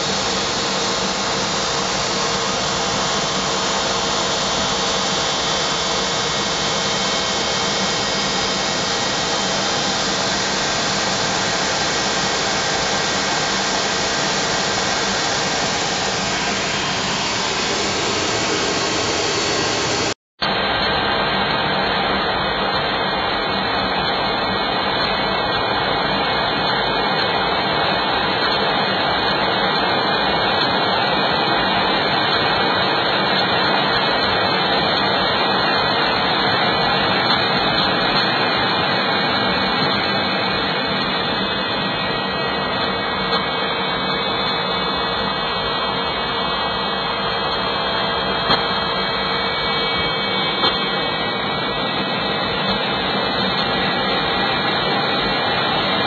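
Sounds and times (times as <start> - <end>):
jet engine and airflow noise: 0.0 - 56.0.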